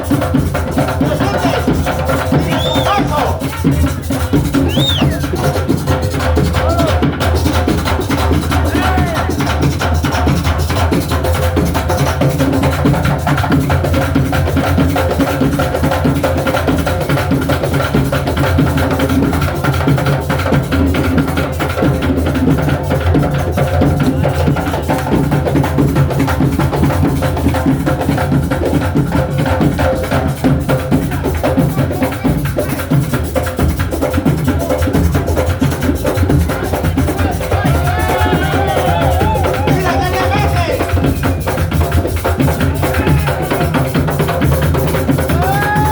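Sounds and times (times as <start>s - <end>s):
drums playing fast rhythm: 0.0s - 45.9s.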